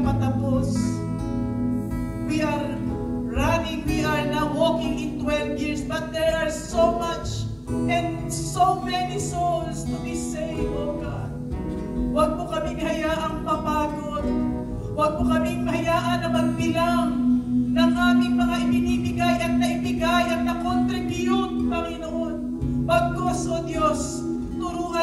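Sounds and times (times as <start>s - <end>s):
band with acoustic guitar: 0.0s - 25.0s.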